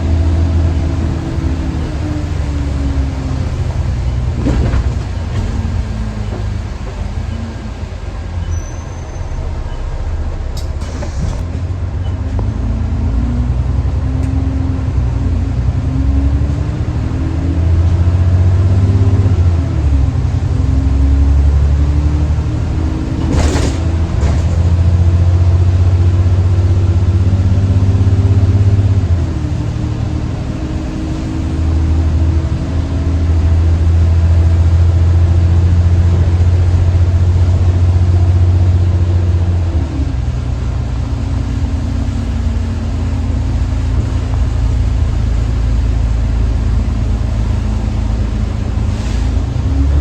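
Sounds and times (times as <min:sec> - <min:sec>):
bus engine running: 0:00.0 - 0:50.0.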